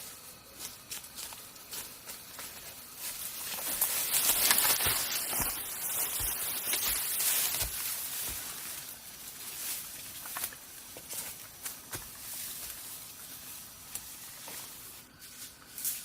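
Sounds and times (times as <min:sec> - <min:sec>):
leaves and brush rustling: 0:00.0 - 0:16.0.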